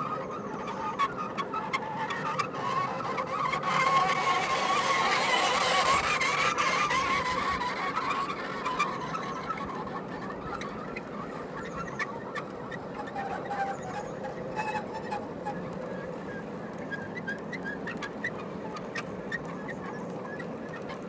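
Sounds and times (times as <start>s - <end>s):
model train wheels rumbling on rails: 0.0s - 21.0s.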